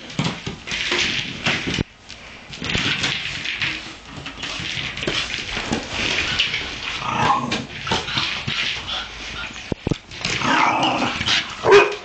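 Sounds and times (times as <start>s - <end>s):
dog scuffling with ball: 0.0s - 12.0s.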